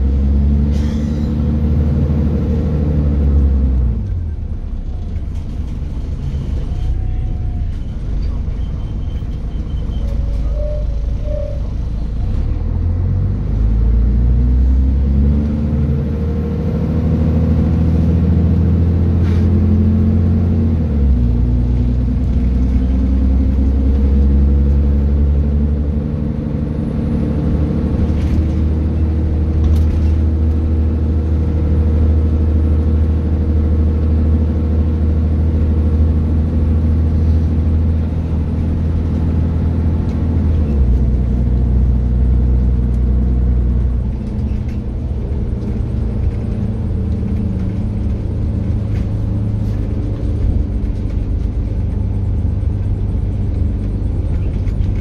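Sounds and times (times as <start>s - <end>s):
bus engine pulling under load: 0.0s - 55.0s.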